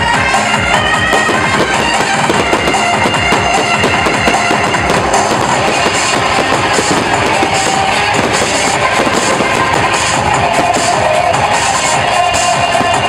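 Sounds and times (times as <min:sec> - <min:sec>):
drums: 0:00.0 - 0:13.0
fireworks cracking and popping: 0:00.0 - 0:13.0
wind instrument: 0:00.0 - 0:13.0.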